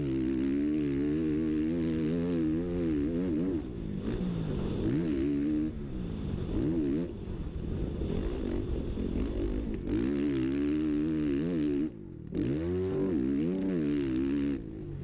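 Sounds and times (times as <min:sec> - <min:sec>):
motocross bike engine revving: 0:00.0 - 0:05.8, 0:08.1 - 0:15.0.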